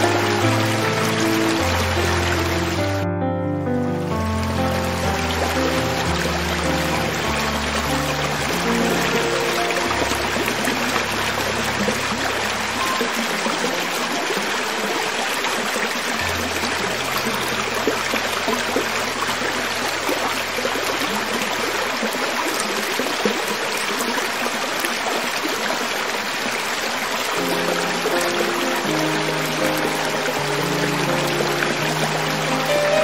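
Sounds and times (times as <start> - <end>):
creek water running over rocks: 0.0 - 33.0.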